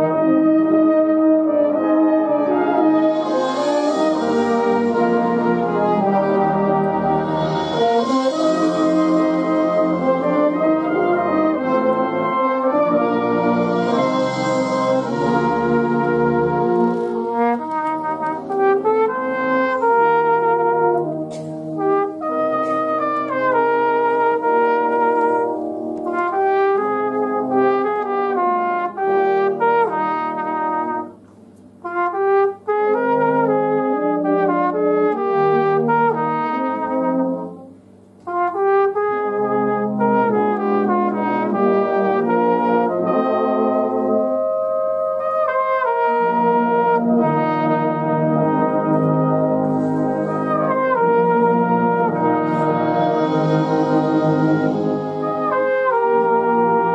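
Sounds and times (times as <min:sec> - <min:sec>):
flugelhorn solo: 0:00.0 - 0:31.2, 0:31.8 - 0:56.9
brass band playing: 0:00.0 - 0:56.9.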